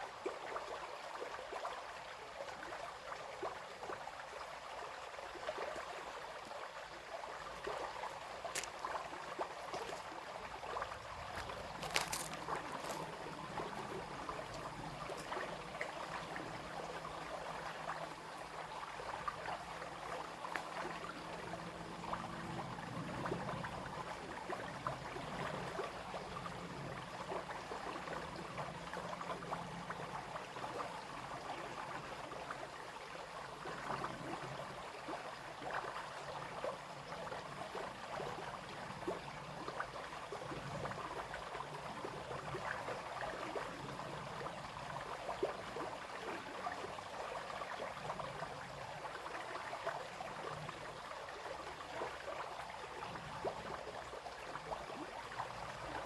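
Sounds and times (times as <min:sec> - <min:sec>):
brook babbling over stones: 0:00.0 - 0:56.0.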